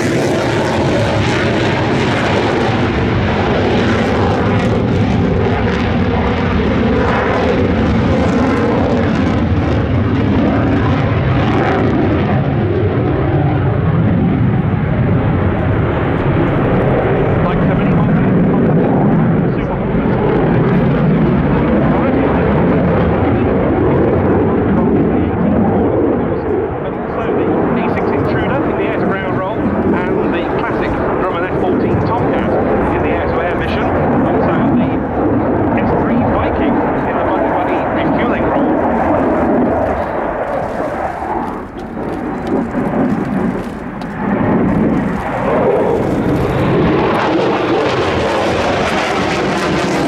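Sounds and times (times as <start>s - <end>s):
jet engines in flight: 0.0s - 50.0s.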